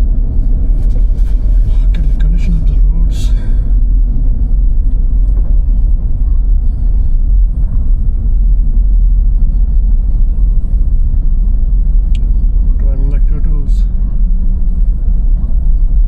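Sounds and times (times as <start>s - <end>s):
car tyre and engine rumble: 0.0s - 16.0s.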